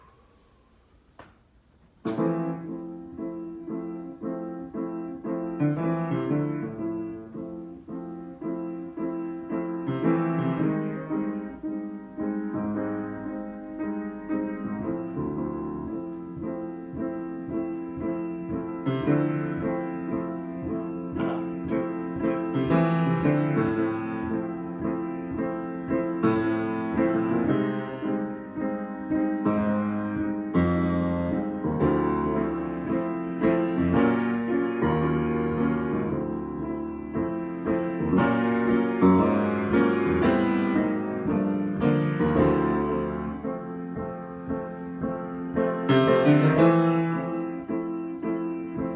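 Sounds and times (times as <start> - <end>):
piano chords: 0.0 - 48.9.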